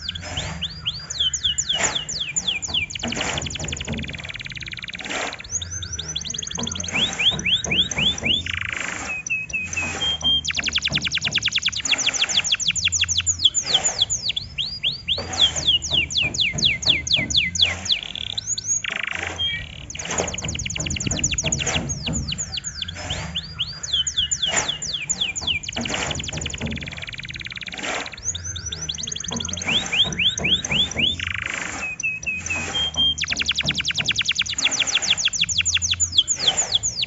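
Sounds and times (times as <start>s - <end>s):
canary singing in trills: 0.0s - 37.0s.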